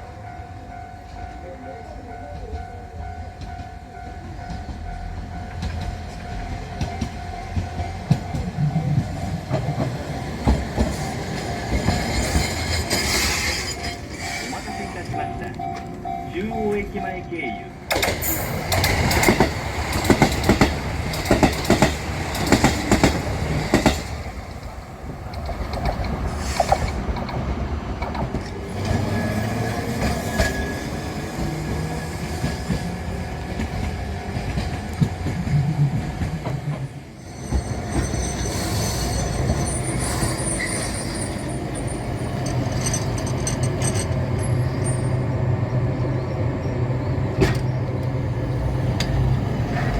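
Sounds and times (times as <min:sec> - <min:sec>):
streetcar motor whine: 0:00.0 - 0:49.9
wheels clacking over rail joints: 0:02.0 - 0:45.4, 0:47.3 - 0:49.9.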